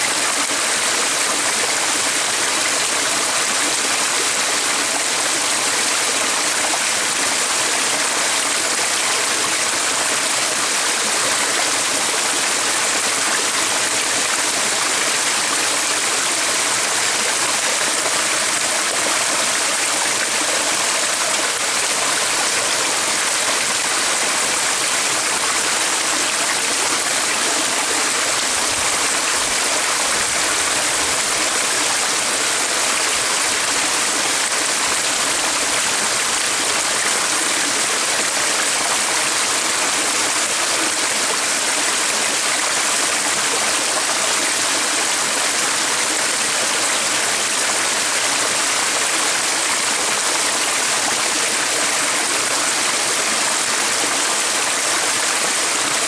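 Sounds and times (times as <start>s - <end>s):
stream of rushing water: 0.0s - 56.0s.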